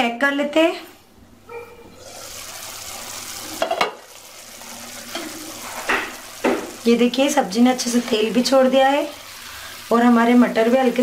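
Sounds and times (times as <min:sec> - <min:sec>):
masala sizzling in oil: 0:02.0 - 0:11.0.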